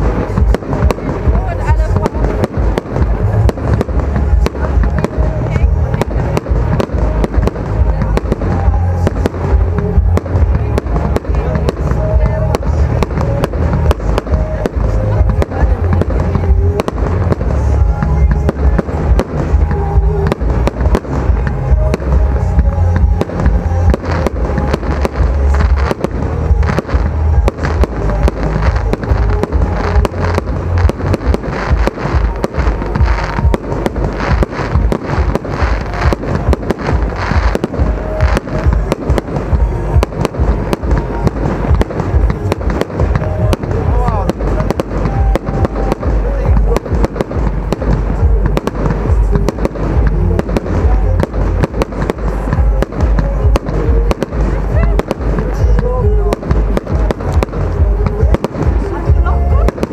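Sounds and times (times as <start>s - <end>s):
fireworks bangs and crackles: 0.0s - 59.9s
low rumble: 0.0s - 59.9s.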